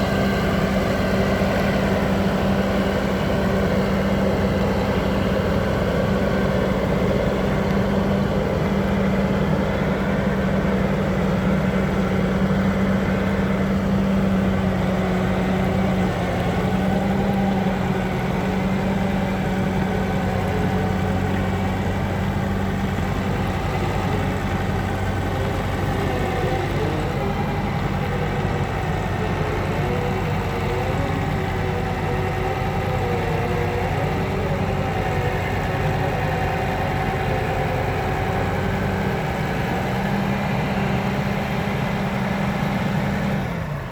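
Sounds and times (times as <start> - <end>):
road roller engine running: 0.0 - 43.9.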